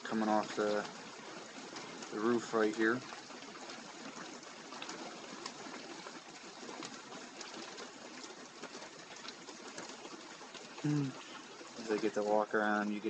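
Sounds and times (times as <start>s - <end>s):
steady rain falling: 0.0s - 13.0s
water dripping off roof edge: 0.0s - 13.0s.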